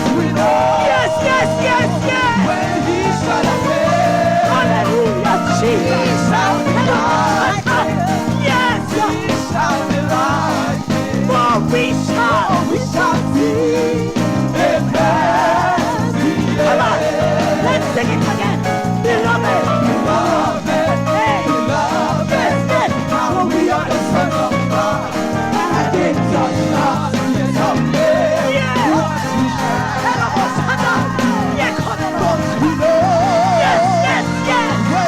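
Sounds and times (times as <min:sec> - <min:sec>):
band playing upbeat gospel music: 0:00.0 - 0:35.0
pulsing bass line: 0:00.0 - 0:35.0
wavering melodic runs: 0:00.0 - 0:35.0.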